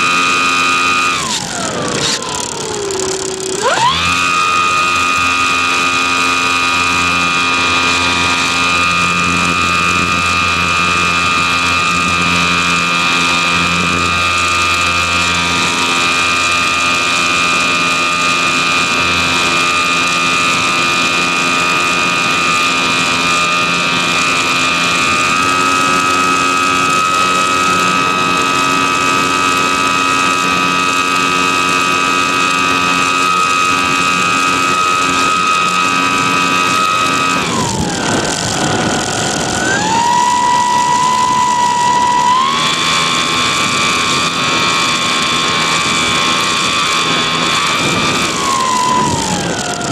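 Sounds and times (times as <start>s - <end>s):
model airplane motor whine: 0.0s - 49.9s.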